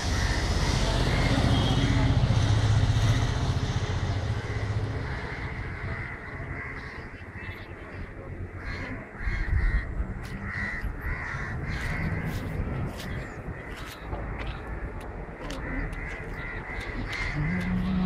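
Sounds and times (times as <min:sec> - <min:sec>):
birds calling: 0:00.0 - 0:02.2, 0:04.1 - 0:18.0.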